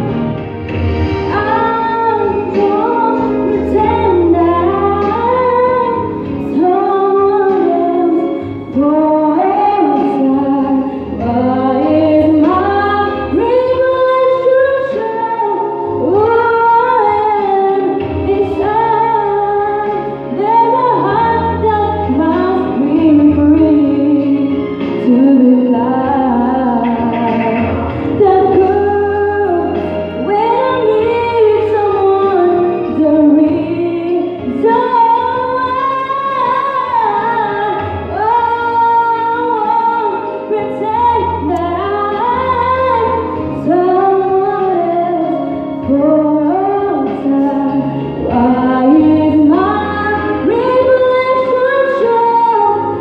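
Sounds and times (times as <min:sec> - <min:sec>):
recorded backing music: 0:00.0 - 0:53.0
woman singing into microphone: 0:00.0 - 0:53.0.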